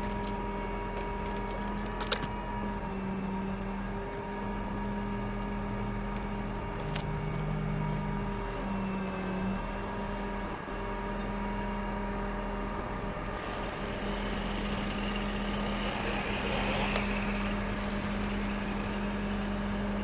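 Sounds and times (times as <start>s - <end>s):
crane engine humming: 0.0s - 20.0s.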